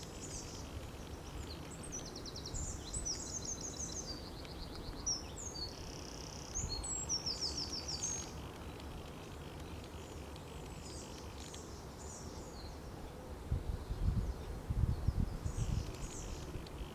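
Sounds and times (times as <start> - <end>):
songbirds chirping: 0.0 - 16.9
steady low background noise: 0.0 - 16.9.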